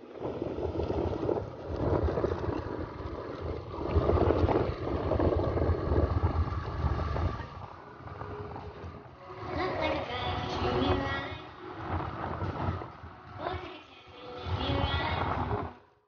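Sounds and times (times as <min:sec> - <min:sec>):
motorcycle engine rumble: 0:00.0 - 0:15.8
tyres on gravel road: 0:00.0 - 0:15.8
wind buffeting microphone: 0:00.0 - 0:15.9.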